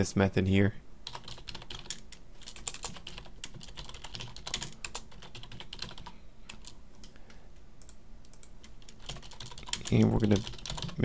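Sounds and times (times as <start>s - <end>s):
computer keyboard typing: 1.0s - 7.2s, 7.8s - 11.0s.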